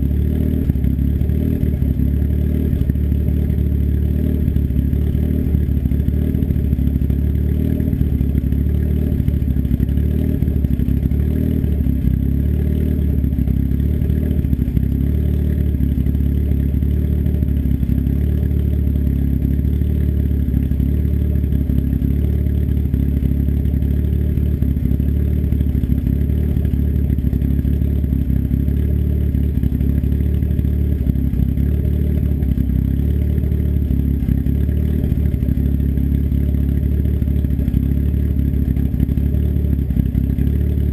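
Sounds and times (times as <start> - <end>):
turbocharged engine idling: 0.0 - 40.9.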